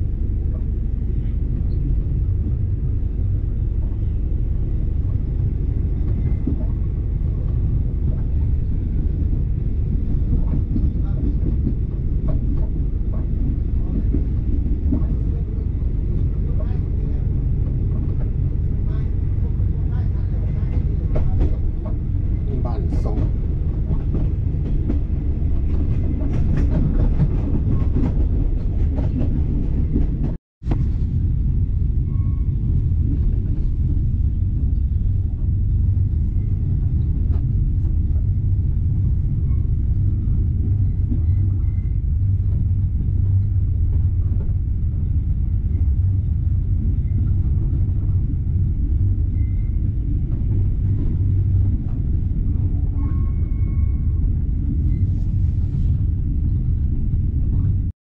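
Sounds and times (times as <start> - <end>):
train carriage rumble: 0.0 - 57.9.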